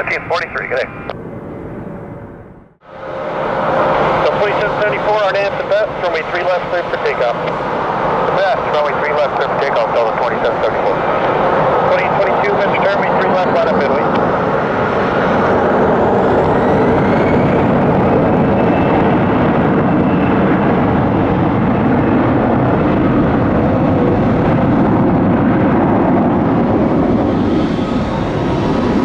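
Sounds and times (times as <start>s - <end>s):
jet engines at takeoff power: 0.0s - 29.0s.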